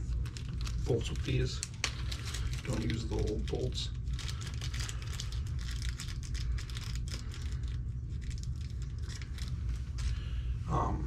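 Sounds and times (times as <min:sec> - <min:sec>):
packaging rustling: 0:00.0 - 0:10.3
low hum: 0:00.0 - 0:11.0.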